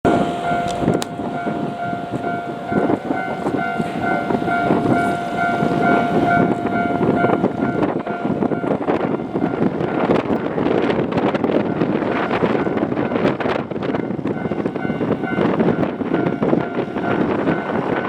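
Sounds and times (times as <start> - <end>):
level crossing warning bell: 0.0 - 18.0
steady loud rumbling: 0.0 - 18.0.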